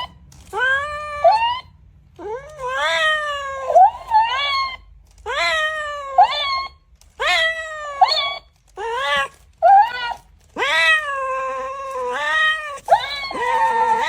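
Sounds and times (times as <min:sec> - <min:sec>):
cat meowing loudly: 0:00.0 - 0:14.0.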